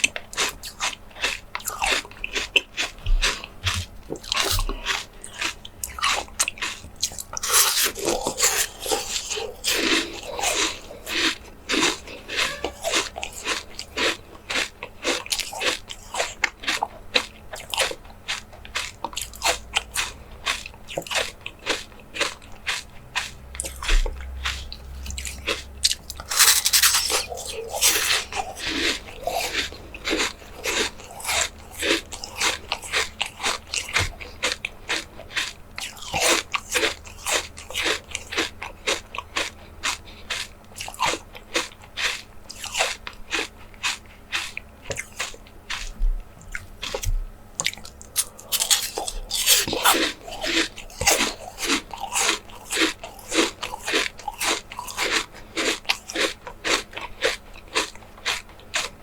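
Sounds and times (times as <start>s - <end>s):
person chewing with wet clicks: 0.0s - 59.0s.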